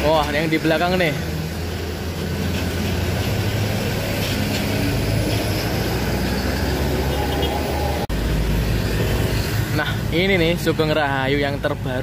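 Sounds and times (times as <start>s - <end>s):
diesel bus engine humming: 0.0s - 10.5s.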